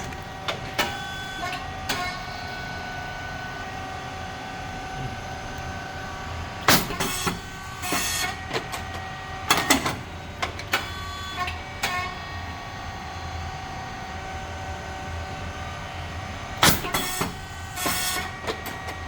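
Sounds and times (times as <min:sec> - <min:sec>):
machine motor humming: 0:00.0 - 0:19.0.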